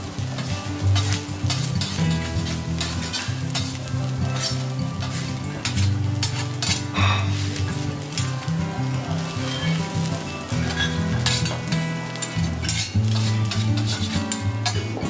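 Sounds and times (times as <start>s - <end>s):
rice sizzling on a griddle: 0.0s - 15.0s
metal spatula scraping and tapping: 0.2s - 8.4s, 9.4s - 15.0s.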